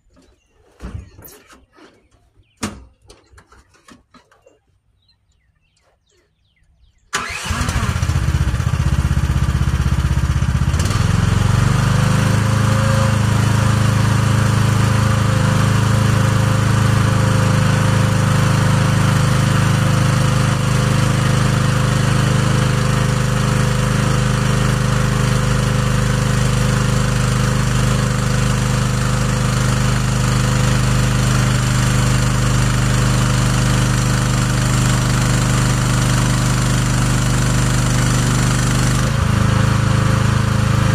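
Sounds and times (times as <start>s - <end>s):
excavator engine starting and running: 7.1s - 40.9s.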